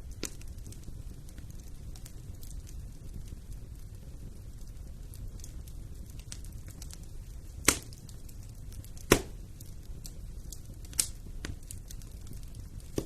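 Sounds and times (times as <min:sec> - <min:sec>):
sharp fire pops: 0:00.0 - 0:13.0
wood fire crackling: 0:00.0 - 0:13.0.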